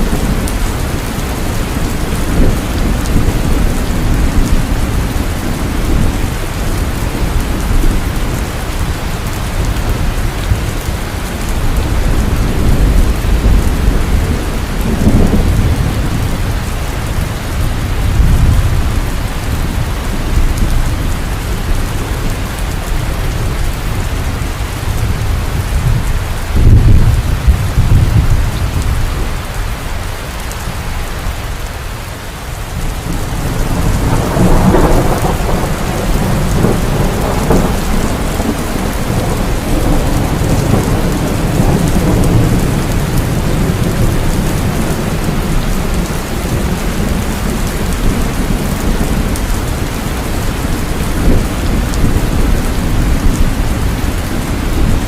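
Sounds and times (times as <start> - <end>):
heavy rain pouring: 0.0 - 55.0
thunder rumbling: 0.0 - 55.0.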